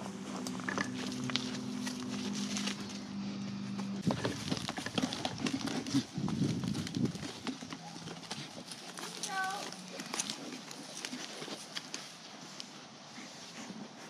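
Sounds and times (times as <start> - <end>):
low steady hum: 0.0 - 13.1
goats butting heads: 0.0 - 14.0
hooves shuffling in straw: 0.0 - 14.0.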